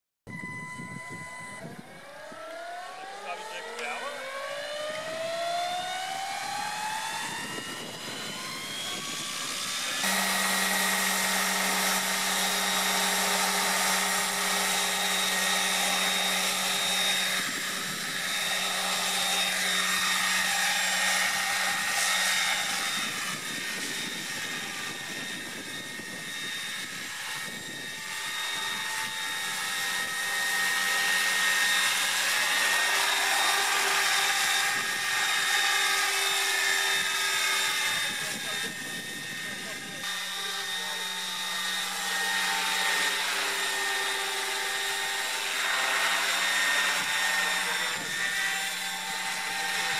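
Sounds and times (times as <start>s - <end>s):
electric motor whine: 0.3s - 49.9s
helicopter rotor noise: 0.3s - 49.9s.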